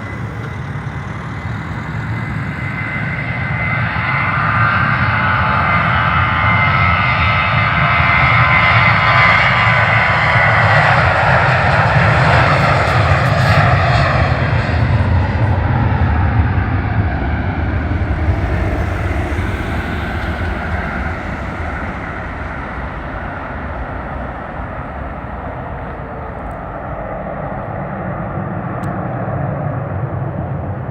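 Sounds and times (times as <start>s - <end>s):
jet engine roar: 0.0s - 30.9s.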